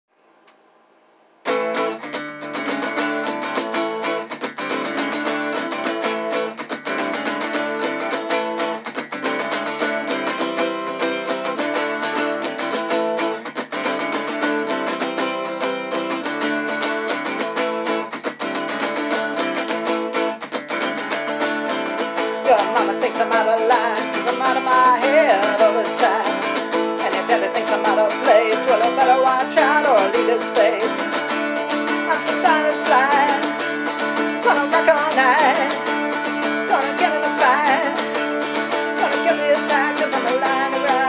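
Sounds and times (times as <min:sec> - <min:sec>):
acoustic guitar strummed with a pick: 0:01.4 - 0:41.0.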